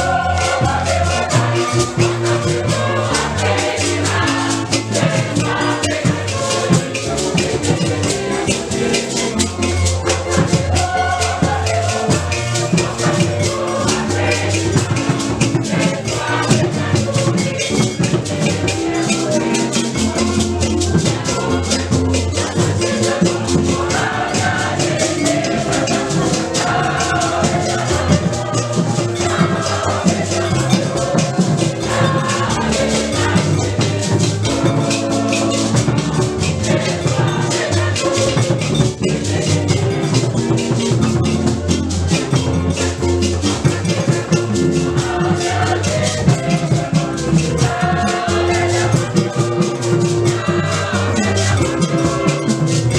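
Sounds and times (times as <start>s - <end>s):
held bass notes: 0.0s - 52.9s
rattling percussion: 0.0s - 52.9s
upbeat music with drums: 0.0s - 52.9s.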